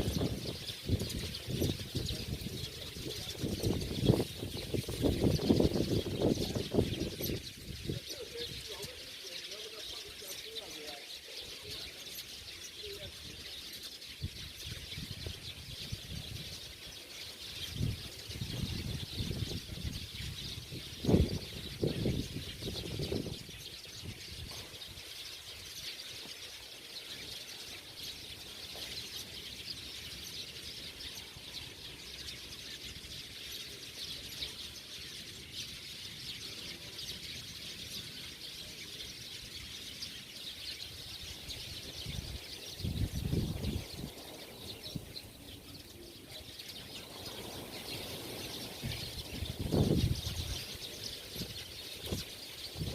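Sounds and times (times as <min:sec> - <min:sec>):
flock of small birds chirping: 0:00.0 - 0:52.9.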